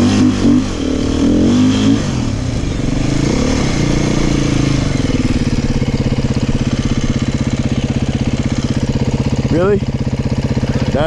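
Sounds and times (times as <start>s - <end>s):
dirt bike engine revving and idling: 0.0s - 11.0s.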